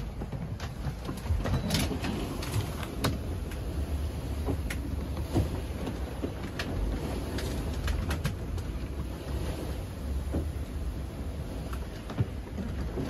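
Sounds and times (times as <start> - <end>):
boat creaking clicks and knocks: 0.0 - 13.0
wind and sea against hull: 0.0 - 13.0.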